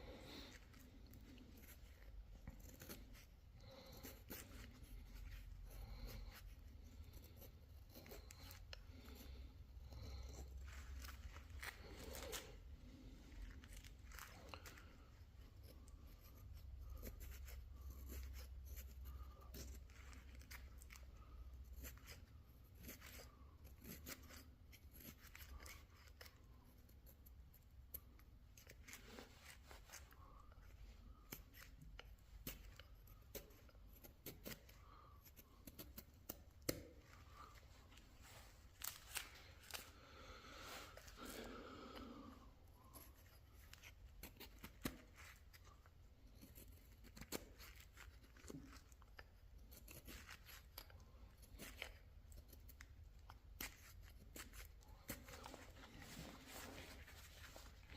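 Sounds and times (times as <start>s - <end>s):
chisel shaving wood: 0.0s - 57.9s.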